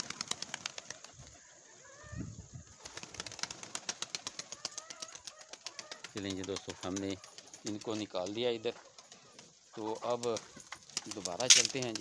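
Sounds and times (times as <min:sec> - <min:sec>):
pigeon wings flapping: 0:00.0 - 0:01.2, 0:02.8 - 0:12.0
birds chirping: 0:00.0 - 0:12.0.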